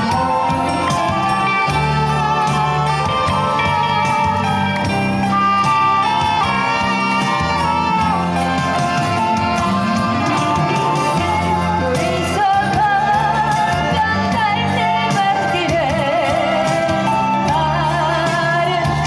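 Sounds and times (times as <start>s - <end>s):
instrumental accompaniment: 0.0s - 19.0s
person singing slow pop song: 0.0s - 19.0s.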